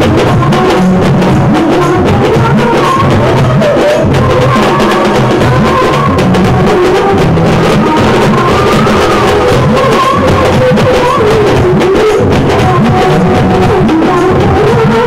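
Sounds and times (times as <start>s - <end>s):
fast dense drumming music: 0.0s - 15.0s.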